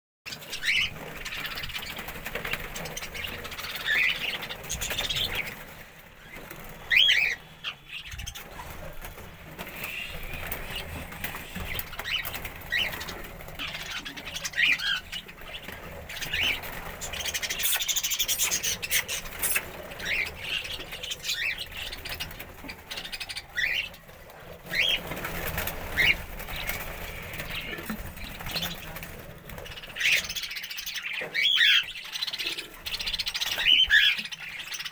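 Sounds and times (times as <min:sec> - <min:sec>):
budgerigars chirping: 0:00.3 - 0:05.6, 0:06.2 - 0:08.9, 0:09.6 - 0:24.1, 0:24.7 - 0:29.0, 0:29.6 - 0:34.9.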